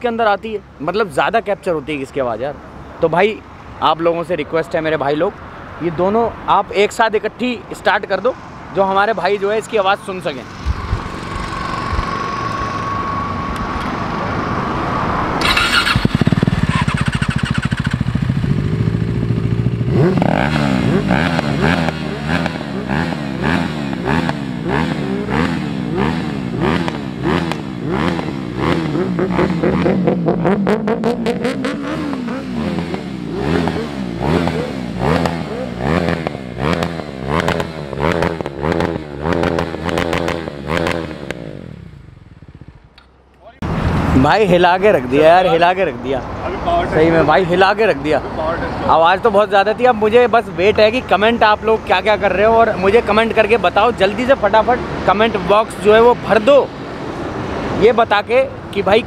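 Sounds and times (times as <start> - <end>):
motorcycle engines revving: 7.8 - 59.0.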